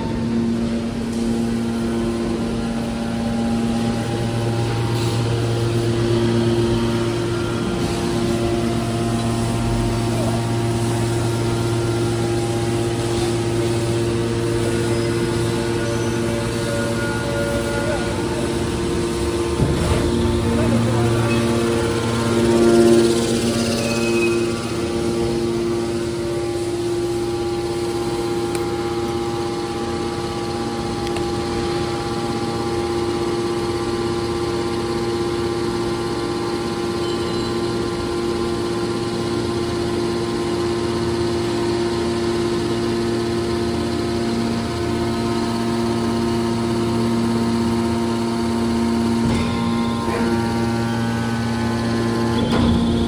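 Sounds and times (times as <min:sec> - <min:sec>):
hydraulic pump motor humming: 0:00.0 - 0:53.0.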